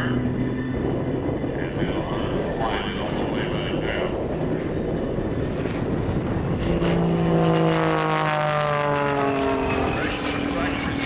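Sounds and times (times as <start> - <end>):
biplane engine and propeller drone: 0.0 - 11.0.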